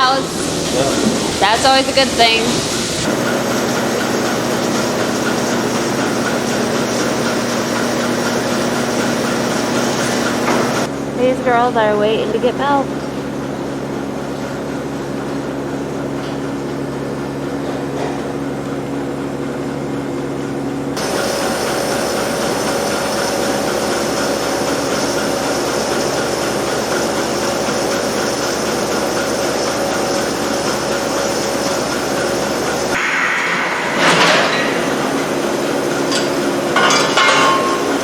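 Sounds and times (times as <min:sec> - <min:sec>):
milking machinery hum: 0:00.0 - 0:38.0.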